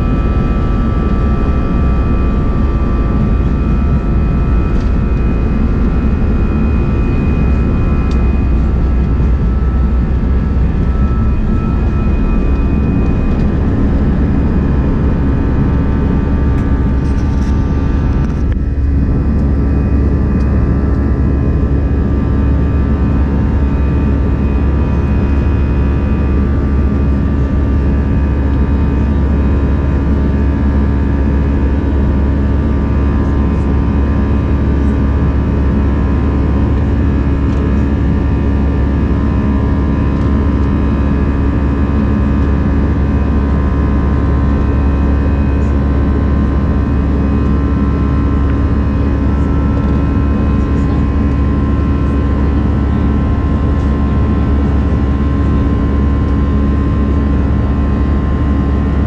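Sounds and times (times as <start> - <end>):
low engine rumble: 0.0 - 59.0
steady whining tones: 0.0 - 59.0.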